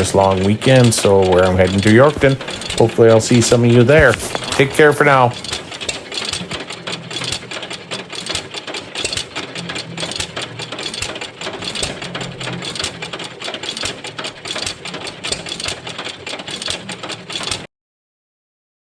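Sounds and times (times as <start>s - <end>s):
engine mechanical clatter: 0.0s - 17.7s.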